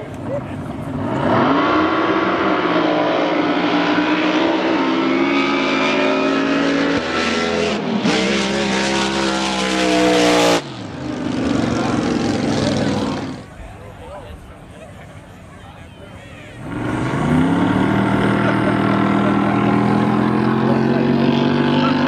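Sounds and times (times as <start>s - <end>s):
boat engine at full throttle: 0.0s - 22.0s.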